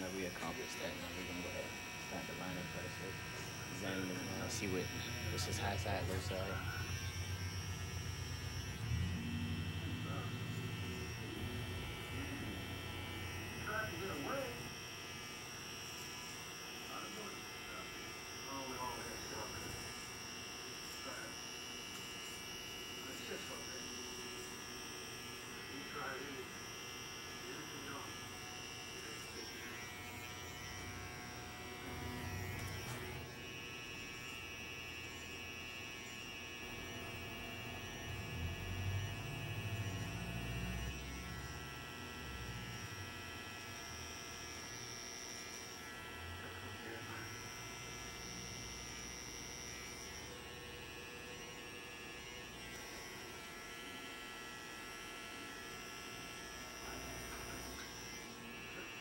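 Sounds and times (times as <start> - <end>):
electric hair trimmer buzzing: 0.0 - 59.0.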